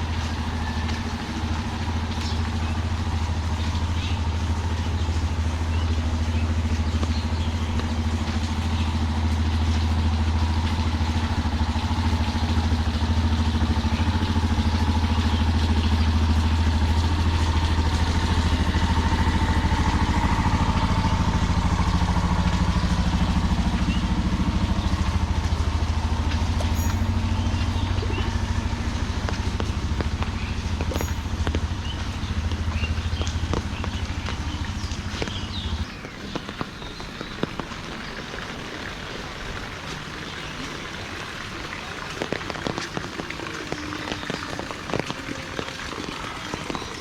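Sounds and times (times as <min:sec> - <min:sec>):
street noise: 0:00.0 - 0:47.0
vehicle engine humming: 0:00.0 - 0:47.0.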